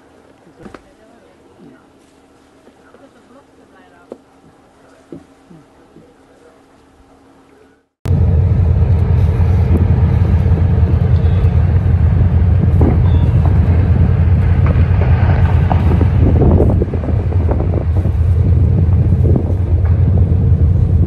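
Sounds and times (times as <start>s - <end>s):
boat low rumble: 0.0s - 21.0s.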